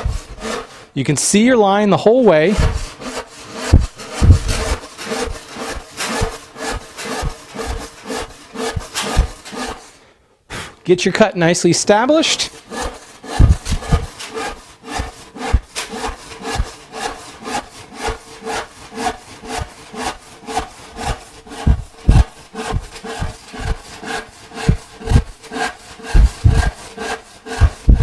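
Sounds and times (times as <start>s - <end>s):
hand saw cutting a board: 0.0s - 0.9s, 2.0s - 10.1s, 11.9s - 28.0s.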